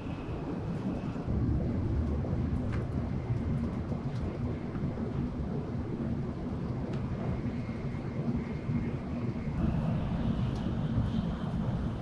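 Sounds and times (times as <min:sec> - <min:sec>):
train rumble from inside cabin: 0:00.0 - 0:12.0.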